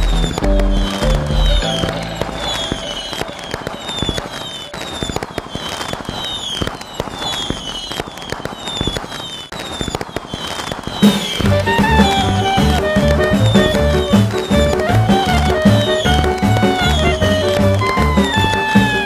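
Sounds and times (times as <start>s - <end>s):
falling whistle: 0.0s - 19.0s
fireworks popping and crackling: 0.0s - 19.0s.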